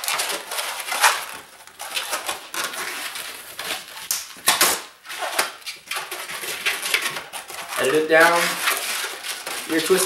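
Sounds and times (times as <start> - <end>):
balloons squeaking as twisted: 0.0 - 10.0.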